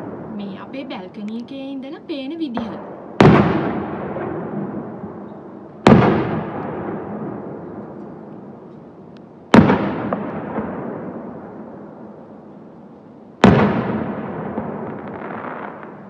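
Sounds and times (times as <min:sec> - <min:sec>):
fireworks booming: 0:00.0 - 0:16.0
rumbling echo: 0:00.0 - 0:16.0.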